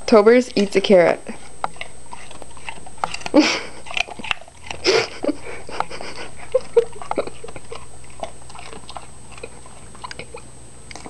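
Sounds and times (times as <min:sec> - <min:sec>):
dog crunching a carrot: 0:00.6 - 0:11.0.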